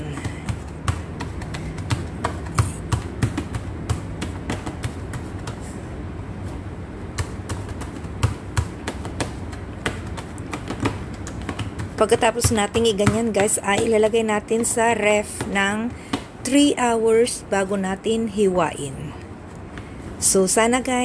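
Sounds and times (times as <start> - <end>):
fingers patting sticky dough: 0.0 - 16.9
low steady hum: 0.0 - 21.0.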